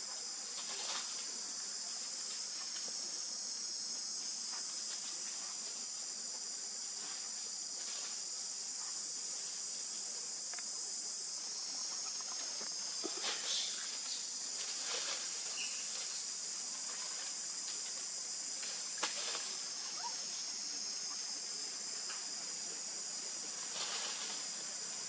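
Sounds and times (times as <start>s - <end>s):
high-pitched insect chorus: 0.0s - 25.0s
rustle: 0.0s - 25.0s.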